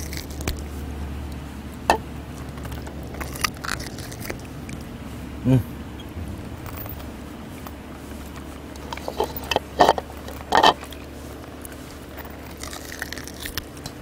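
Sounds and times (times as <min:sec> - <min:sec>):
dogs chewing and biting: 0:00.0 - 0:05.1, 0:06.1 - 0:14.0.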